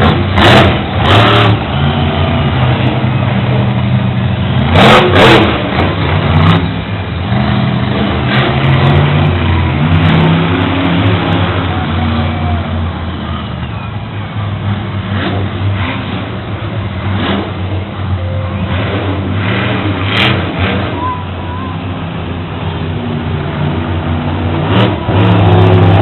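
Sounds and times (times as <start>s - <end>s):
truck engine revving loudly: 0.0s - 13.7s, 14.3s - 26.0s.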